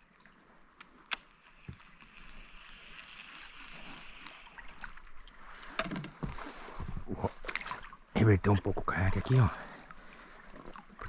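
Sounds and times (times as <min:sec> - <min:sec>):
water lapping around a kayak: 0:00.0 - 0:11.0.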